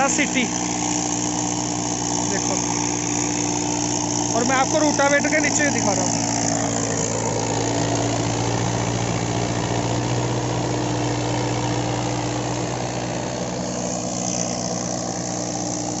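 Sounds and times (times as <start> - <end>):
diesel tractor engine running: 0.0 - 16.0
rotavator churning soil: 0.0 - 16.0.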